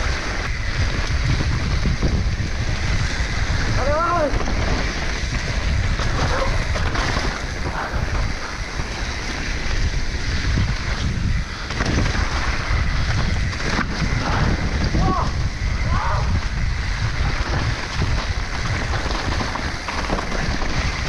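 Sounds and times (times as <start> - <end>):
bike tyre noise on dirt: 0.0 - 21.0
wind on microphone: 0.0 - 21.0.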